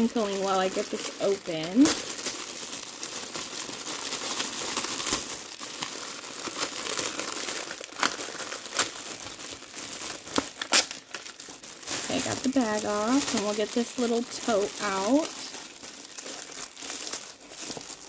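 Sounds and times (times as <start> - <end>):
cellophane bag crinkling: 0.0 - 18.0.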